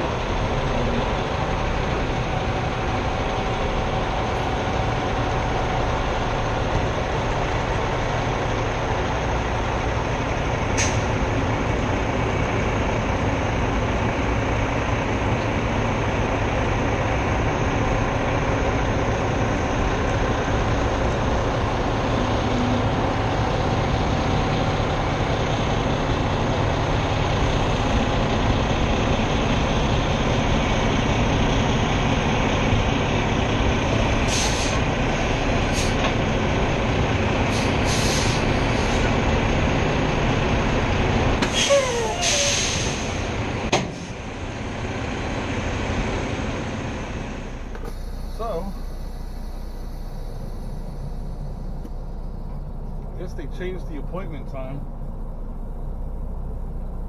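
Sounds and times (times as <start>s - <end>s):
diesel truck engine running: 0.0s - 57.0s
road and wind noise: 0.0s - 57.0s.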